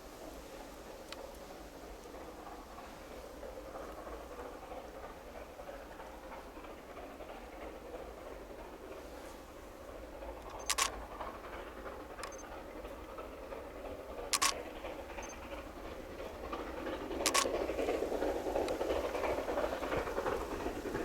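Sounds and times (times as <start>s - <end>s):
train rolling rumble: 0.0s - 21.0s
train wheels clicking over rail joints: 0.0s - 21.0s.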